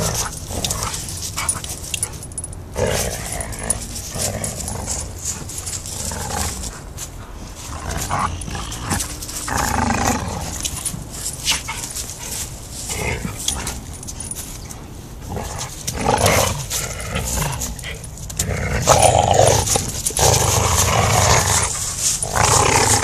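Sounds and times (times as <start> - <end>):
dogs growling at play: 0.0 - 23.0
dry leaves crackling: 0.0 - 23.0.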